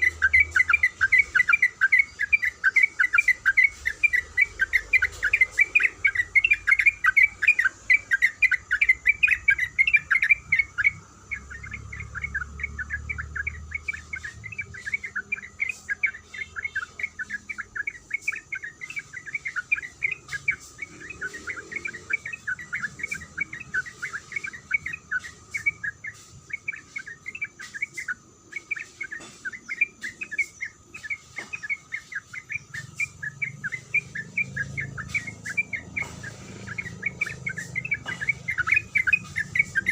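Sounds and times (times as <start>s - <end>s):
bird singing rapid chattering notes: 0.0s - 39.9s.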